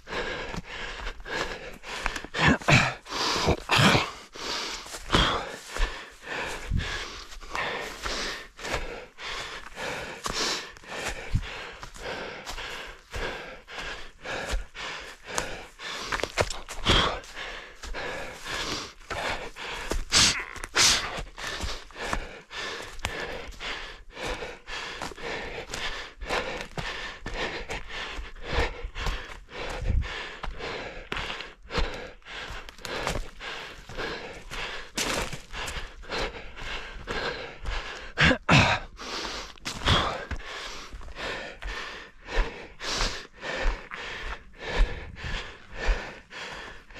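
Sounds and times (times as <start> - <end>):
runner panting hard: 0.0 - 46.9
running footfalls: 0.1 - 46.9.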